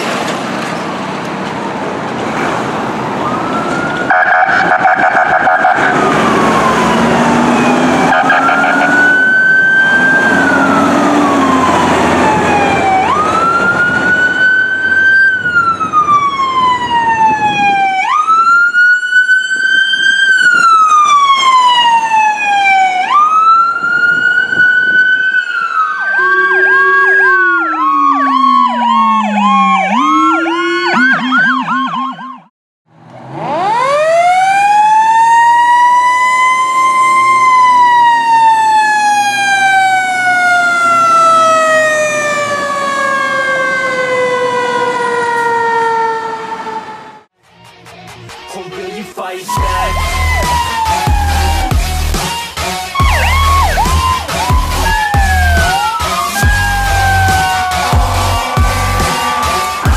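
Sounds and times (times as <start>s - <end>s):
fire engine engine: 0.0s - 47.4s, 49.5s - 59.9s
lower siren tone sliding down: 3.0s - 32.5s, 33.4s - 47.3s, 49.5s - 59.9s
siren wailing and yelping: 3.1s - 32.5s, 33.4s - 47.3s, 49.5s - 59.9s.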